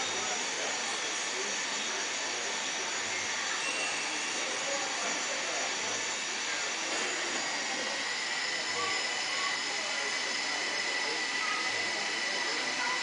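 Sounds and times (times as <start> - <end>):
jet engine hiss and whine: 0.0 - 13.0
murmur of crowd voices: 0.0 - 13.0.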